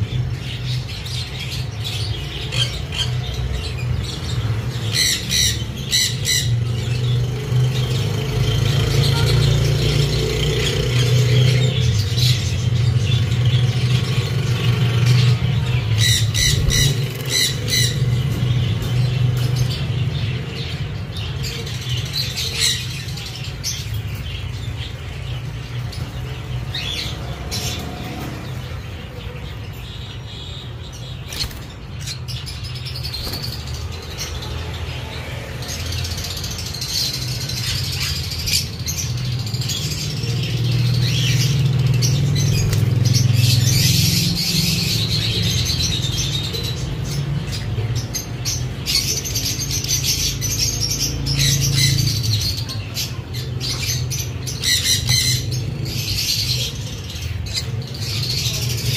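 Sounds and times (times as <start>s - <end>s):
parrots chirping and squawking: 0.0s - 58.9s.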